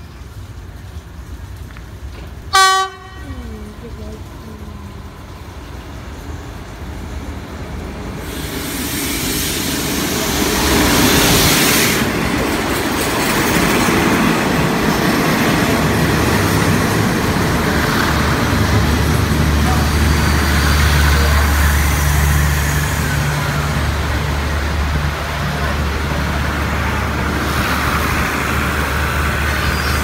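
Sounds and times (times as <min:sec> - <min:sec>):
diesel locomotive passing: 0:00.0 - 0:30.0
train coaches rolling on rails: 0:00.0 - 0:30.0.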